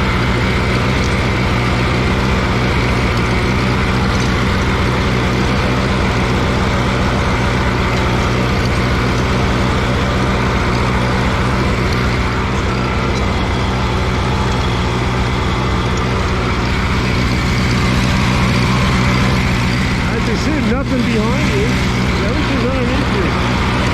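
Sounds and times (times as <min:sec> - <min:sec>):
tractor engine running under load: 0:00.0 - 0:23.9.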